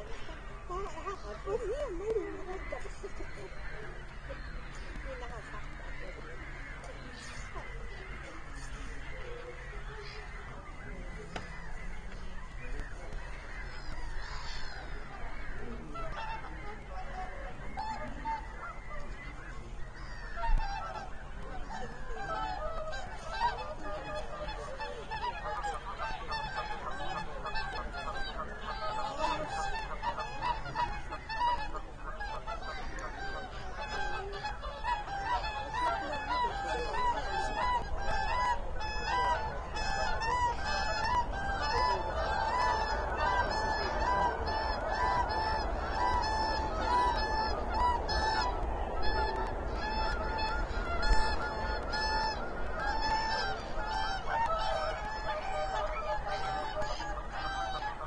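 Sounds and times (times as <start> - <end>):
waterbirds honking: 0.0 - 58.0.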